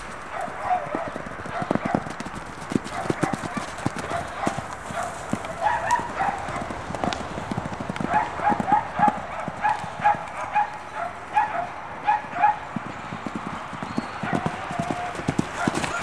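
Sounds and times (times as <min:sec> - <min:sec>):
hooves thudding on sand: 0:00.0 - 0:10.8, 0:12.3 - 0:16.0.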